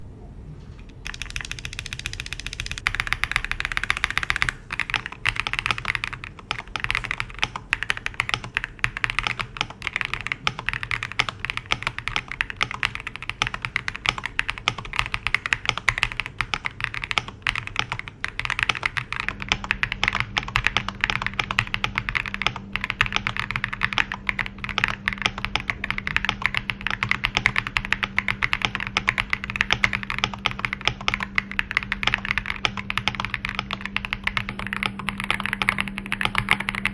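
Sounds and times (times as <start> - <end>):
fast typing on mechanical keyboard: 1.0 - 36.9.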